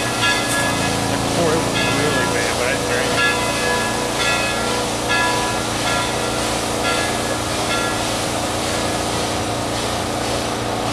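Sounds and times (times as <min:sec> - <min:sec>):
locomotive bell ringing: 0:00.0 - 0:09.1
steam locomotive rumble: 0:00.0 - 0:10.9.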